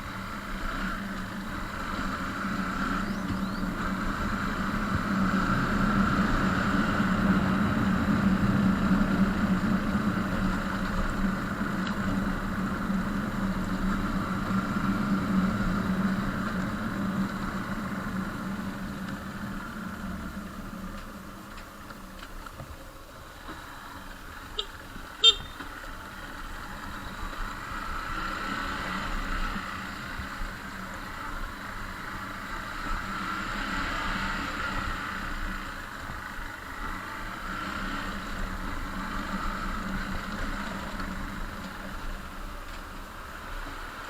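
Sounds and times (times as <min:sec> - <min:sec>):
road traffic hiss: 0:00.0 - 0:44.0.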